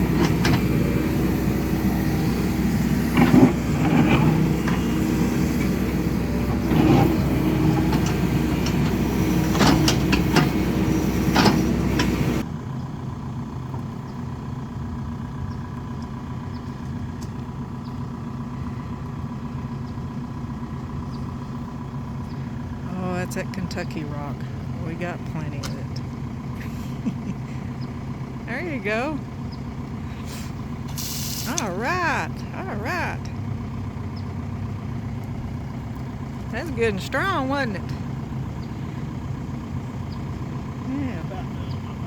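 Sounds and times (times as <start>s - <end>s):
excavator engine running: 0.0s - 42.0s.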